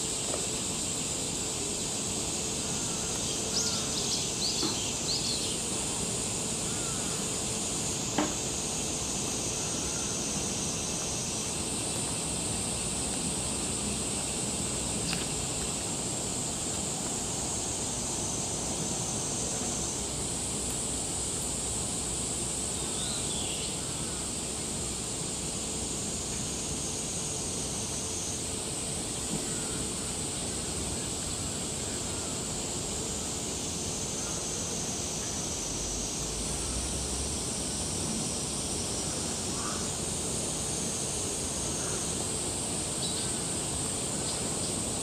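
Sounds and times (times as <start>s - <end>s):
cicada chorus drone: 0.0s - 45.0s.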